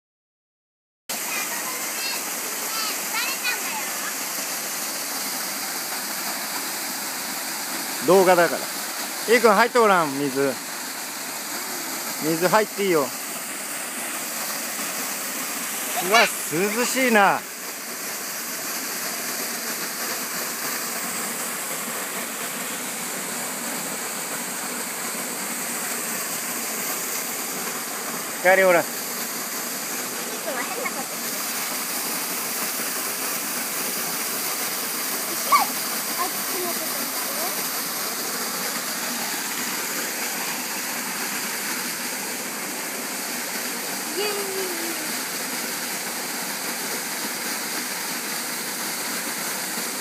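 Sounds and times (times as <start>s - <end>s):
waterfall rushing: 1.1s - 50.0s.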